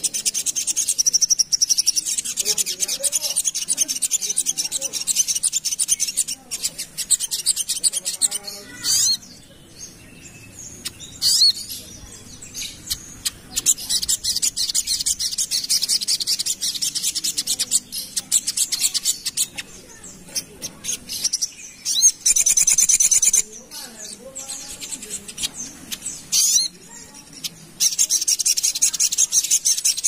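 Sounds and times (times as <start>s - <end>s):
bird chattering song of fast ticks: 0.0s - 30.0s.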